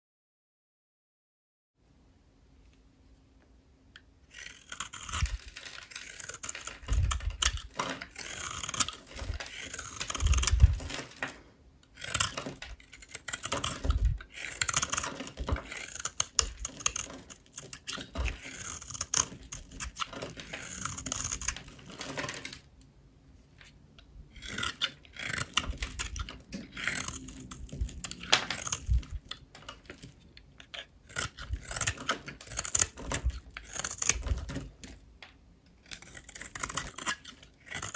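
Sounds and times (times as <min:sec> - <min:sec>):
blade scraping through soap: 0:04.3 - 0:22.6, 0:23.6 - 0:35.0, 0:35.8 - 0:37.9.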